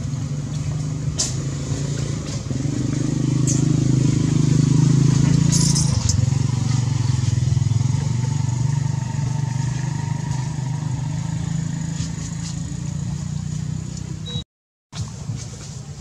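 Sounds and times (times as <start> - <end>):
small engine droning: 0.0 - 14.4.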